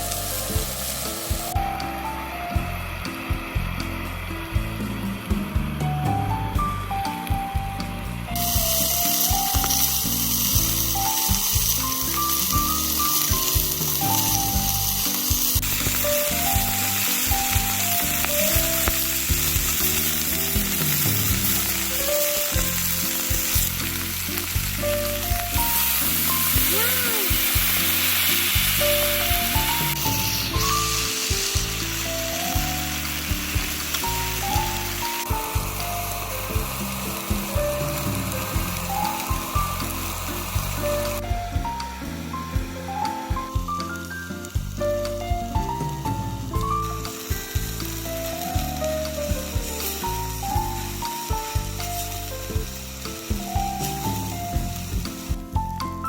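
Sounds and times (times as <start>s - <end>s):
food sizzling in a pan: 0.0s - 56.0s
soft background music: 0.0s - 56.0s.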